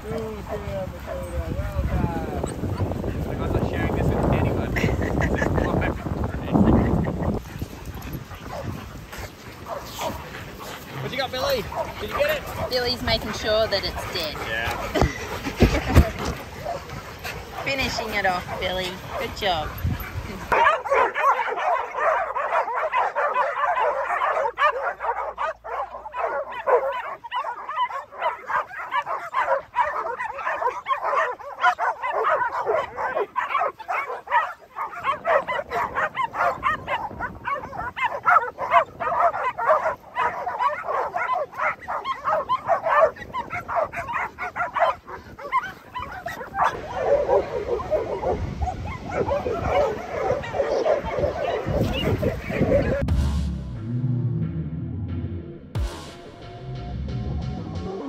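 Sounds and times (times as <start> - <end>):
pack of dogs barking: 0.0 - 53.1.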